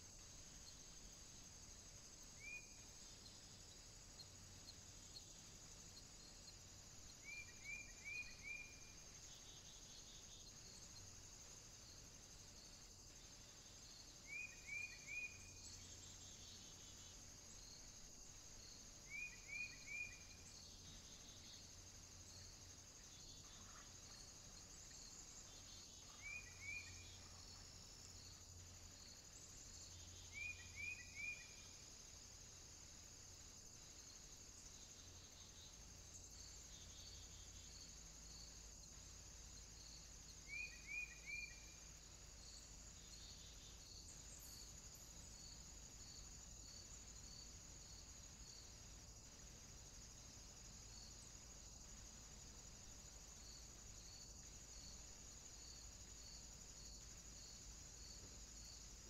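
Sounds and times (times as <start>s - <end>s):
faint insect chorus: 0.0s - 59.0s.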